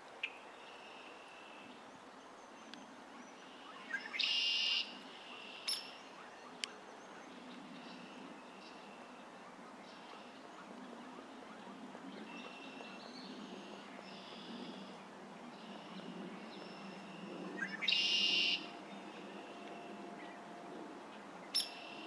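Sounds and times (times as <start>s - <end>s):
wild bird calls: 3.2s - 22.0s.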